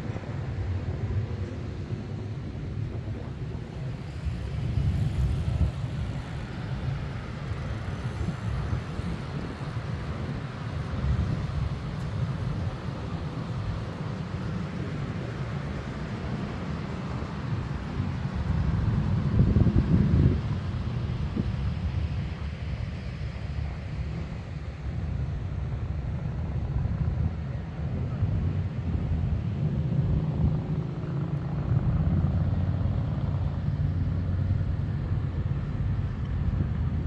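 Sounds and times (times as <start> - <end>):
steady outdoor hiss: 0.0 - 37.0
wind buffeting microphone: 0.0 - 37.0.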